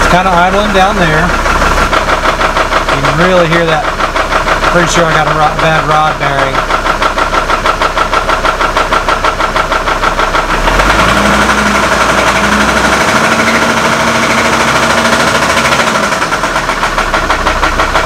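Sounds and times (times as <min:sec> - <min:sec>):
engine idling with knocking: 0:00.0 - 0:18.0.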